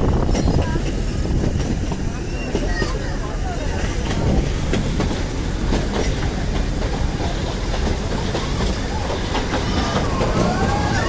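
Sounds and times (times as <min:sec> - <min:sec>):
train carriage rumble: 0:00.0 - 0:11.0
wheels clicking over rails: 0:00.0 - 0:11.0.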